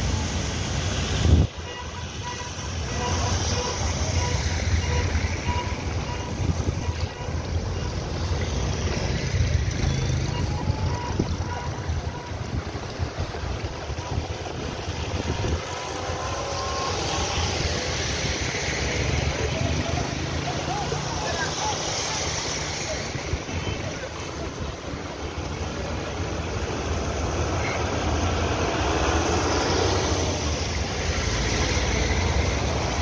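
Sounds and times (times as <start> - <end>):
tyres splashing through water: 0.0 - 33.0
vehicle engines rumbling: 0.0 - 33.0.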